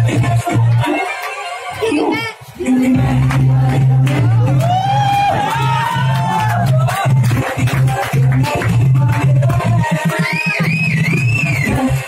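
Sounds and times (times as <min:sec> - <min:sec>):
dance music with bass beat: 0:00.0 - 0:12.0.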